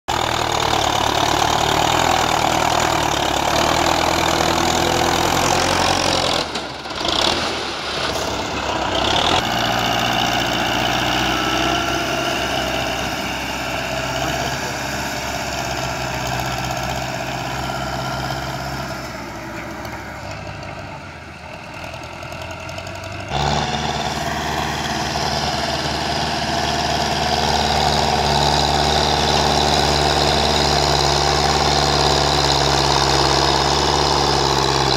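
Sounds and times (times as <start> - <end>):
tractor diesel engine straining: 0.1 - 34.9.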